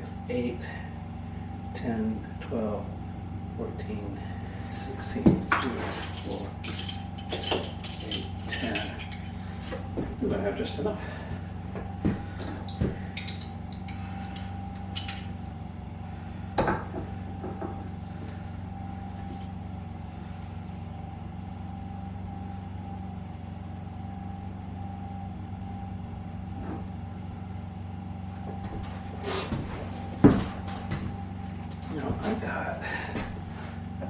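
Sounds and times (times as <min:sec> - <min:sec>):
engine-like hum: 0:00.0 - 0:34.0.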